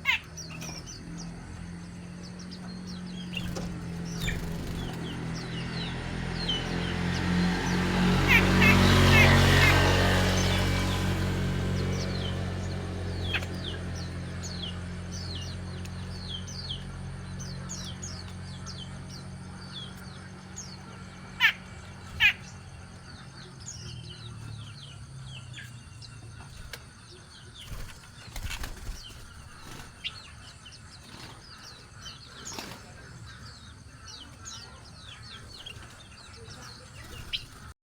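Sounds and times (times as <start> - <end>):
wings fluttering: 0.0 - 16.2, 19.8 - 23.6, 25.6 - 34.6, 35.2 - 37.8
louder bird calls: 0.0 - 37.8
small birds chirping: 0.0 - 37.8.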